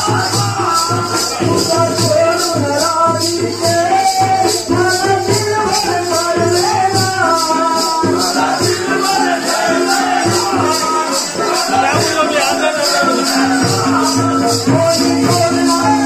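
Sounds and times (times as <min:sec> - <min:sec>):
fast jingling beat: 0:00.0 - 0:16.0
hand drum: 0:00.0 - 0:16.0
man singing: 0:00.0 - 0:16.0.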